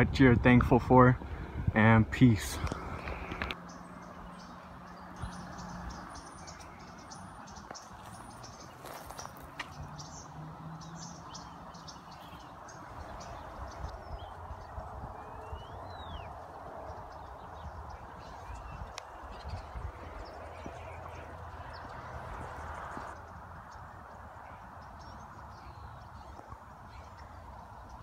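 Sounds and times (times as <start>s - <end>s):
birds chirping: 0.0s - 28.0s
rising and falling bird call: 2.6s - 28.0s.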